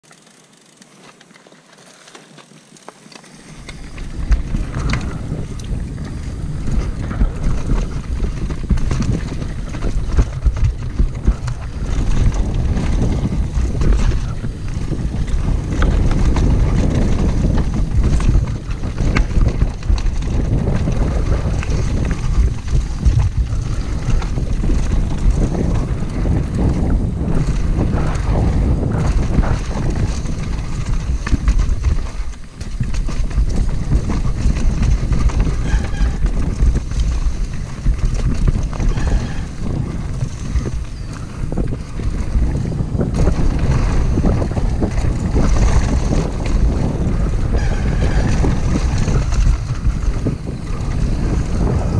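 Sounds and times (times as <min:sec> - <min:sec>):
bike knocking and rattling: 0:00.0 - 0:51.9
tyres rumbling on gravel: 0:00.0 - 0:51.9
wind buffeting microphone: 0:03.4 - 0:51.9.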